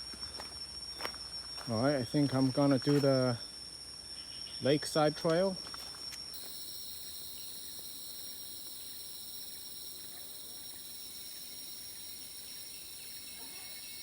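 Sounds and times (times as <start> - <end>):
insects buzzing and trilling: 0.0 - 14.0.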